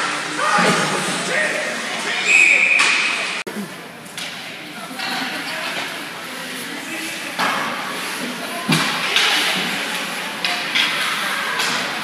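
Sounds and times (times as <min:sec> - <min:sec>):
spectators' voices: 0:00.0 - 0:12.0.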